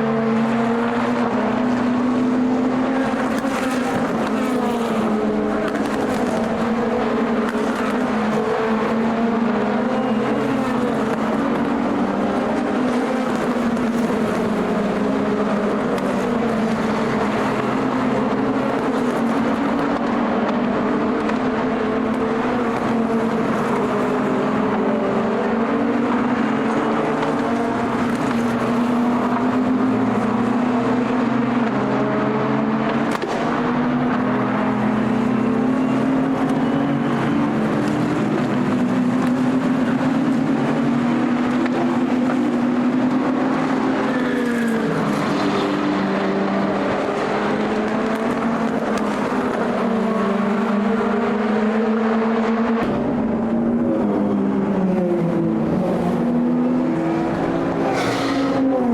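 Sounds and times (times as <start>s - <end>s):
racing car engines droning: 0.0s - 58.9s
racing car passing: 0.0s - 58.9s.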